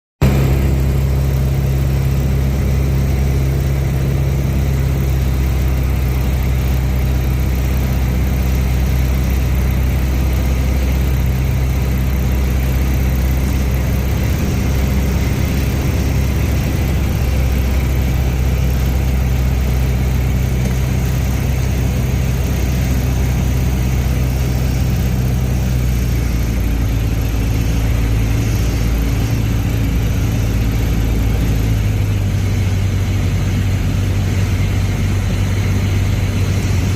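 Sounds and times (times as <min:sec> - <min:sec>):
light aircraft engine droning: 0:00.2 - 0:36.9.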